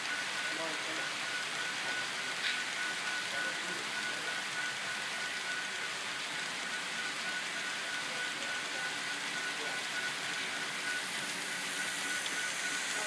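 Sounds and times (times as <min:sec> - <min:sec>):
faint high whine: 0:00.0 - 0:05.8, 0:06.7 - 0:13.0
model train wheels rolling: 0:00.0 - 0:13.0.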